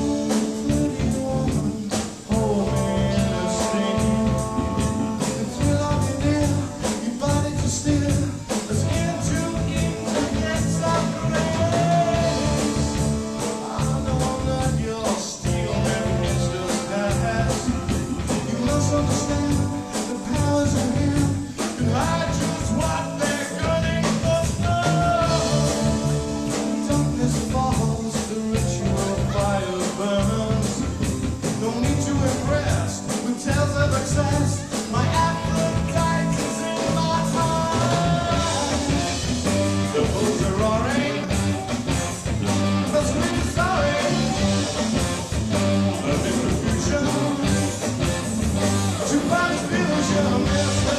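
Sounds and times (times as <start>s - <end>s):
person singing: 0.0s - 50.9s
rock band playing: 0.0s - 50.9s.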